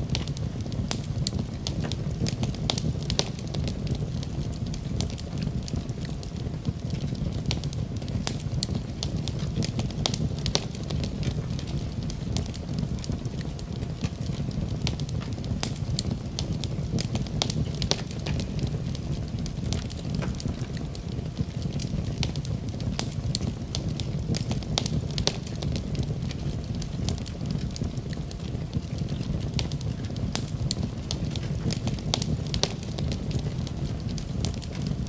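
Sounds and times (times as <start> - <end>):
fireplace fire crackling: 0.0 - 35.0
low rumble of burning logs: 0.0 - 35.0.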